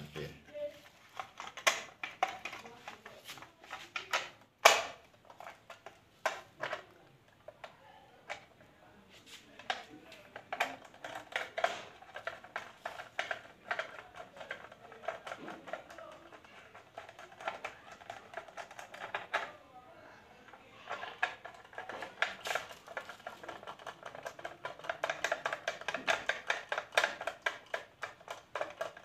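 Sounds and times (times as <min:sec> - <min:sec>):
plastic clicks and knocks: 0:01.1 - 0:08.7, 0:09.6 - 0:19.6, 0:20.5 - 0:29.0.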